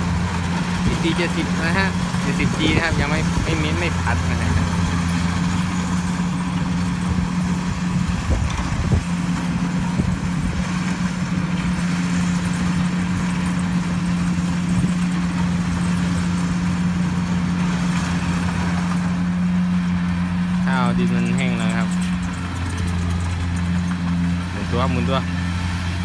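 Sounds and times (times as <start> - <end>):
combine harvester engine hum: 0.0 - 26.0
working machinery noise: 0.0 - 26.0.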